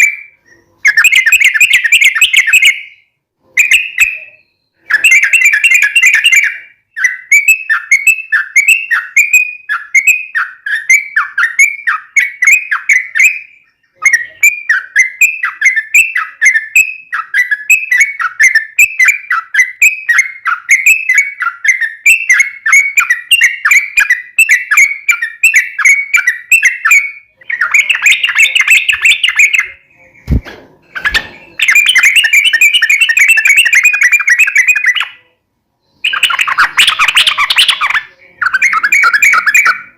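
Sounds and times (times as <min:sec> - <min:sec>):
bird chattering: 0:03.6 - 0:29.8, 0:31.0 - 0:35.3, 0:36.0 - 0:39.9.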